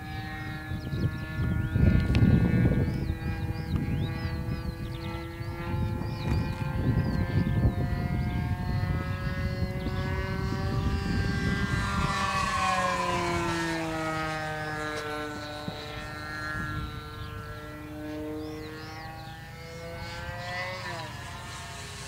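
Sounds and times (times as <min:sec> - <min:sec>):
model plane engine at high revs: 0:00.0 - 0:22.0.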